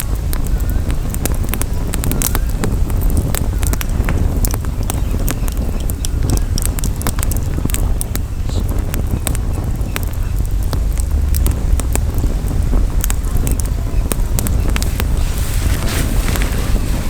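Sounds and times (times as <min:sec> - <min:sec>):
campfire crackling and popping: 0:00.0 - 0:17.0
wind rumble on microphone: 0:00.0 - 0:17.0.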